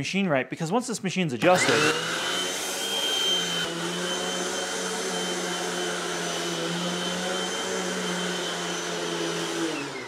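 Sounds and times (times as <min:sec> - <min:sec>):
vacuum cleaner running: 0:01.4 - 0:10.0.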